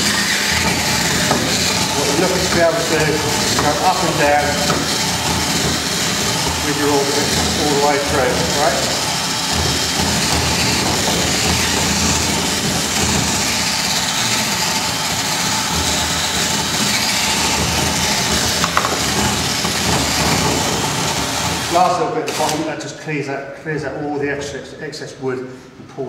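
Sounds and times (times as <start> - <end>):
cordless drill boring into wood: 0.0 - 22.7.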